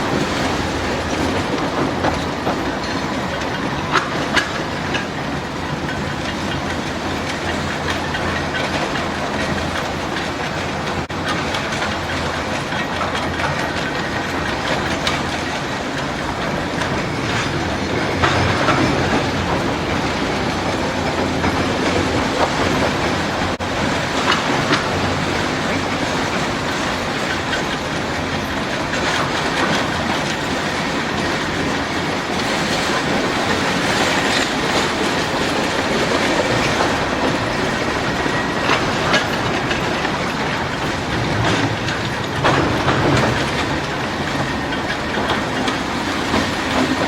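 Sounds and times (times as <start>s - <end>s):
train wagons rumbling on track: 0.0s - 47.0s.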